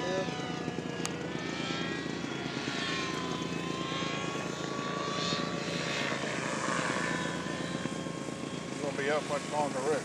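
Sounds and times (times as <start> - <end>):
model plane propeller whine: 0.0 - 10.0.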